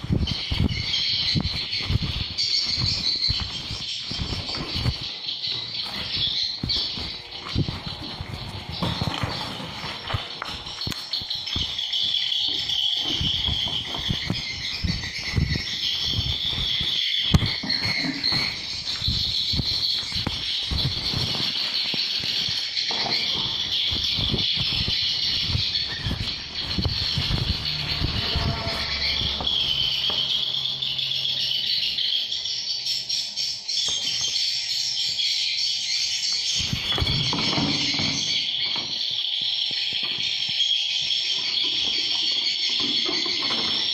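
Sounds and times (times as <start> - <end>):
swiftlets twittering chorus: 0.0 - 43.9.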